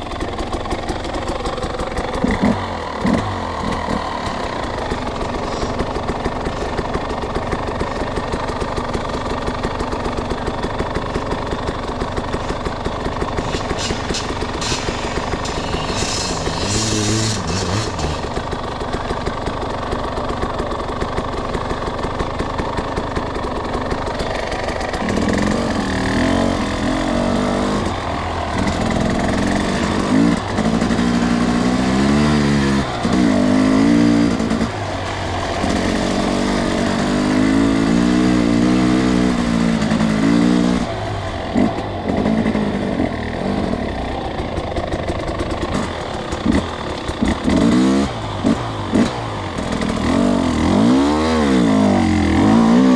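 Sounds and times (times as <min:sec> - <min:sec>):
dirt bike engine revving: 0:00.0 - 0:20.2, 0:23.7 - 0:52.9.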